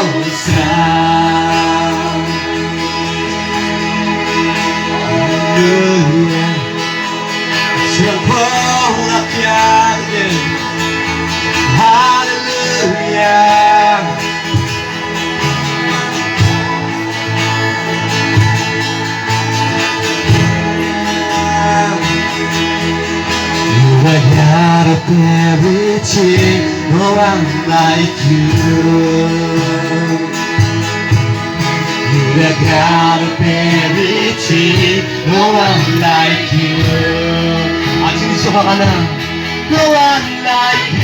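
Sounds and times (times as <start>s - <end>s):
guitar: 0.0s - 41.0s
instrumental worship band music: 0.0s - 41.0s.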